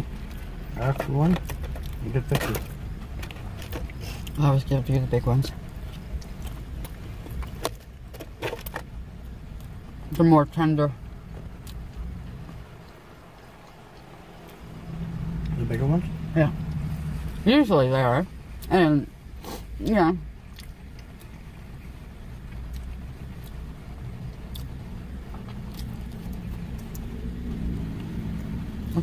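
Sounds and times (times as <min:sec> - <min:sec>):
low rumble inside car: 0:00.0 - 0:29.0
vehicle engine idling: 0:00.0 - 0:29.0.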